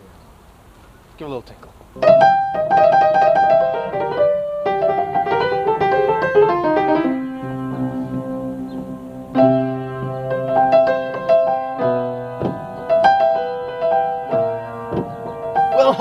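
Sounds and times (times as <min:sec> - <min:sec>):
upright piano playing: 0:02.0 - 0:16.0.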